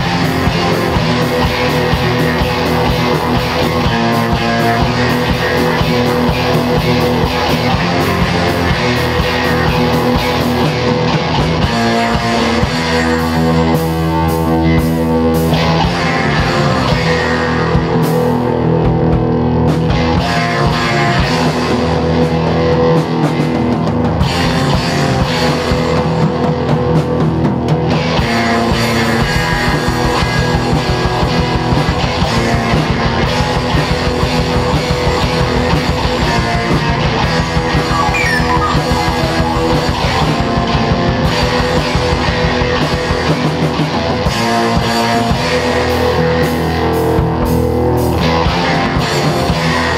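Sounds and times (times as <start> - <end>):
punk rock band playing: 0.0 - 49.9.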